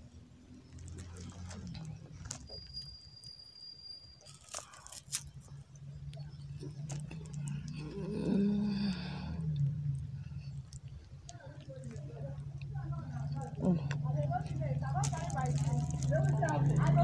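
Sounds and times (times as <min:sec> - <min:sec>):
wet chewing sounds: 0:00.6 - 0:02.9, 0:04.2 - 0:17.0
biscuit crunches: 0:00.6 - 0:03.0, 0:04.2 - 0:08.9, 0:10.4 - 0:17.0.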